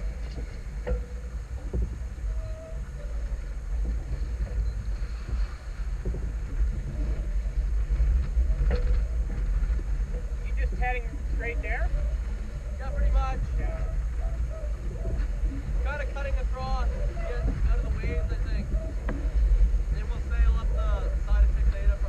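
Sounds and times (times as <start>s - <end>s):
water rushing along hull: 0.0s - 22.0s
wind buffeting microphone: 0.0s - 22.0s.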